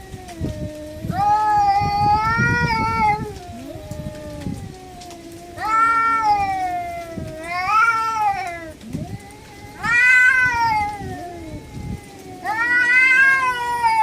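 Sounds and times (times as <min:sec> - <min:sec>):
cats yowling: 0:00.0 - 0:14.0
low drawn-out cat moan: 0:00.0 - 0:14.0.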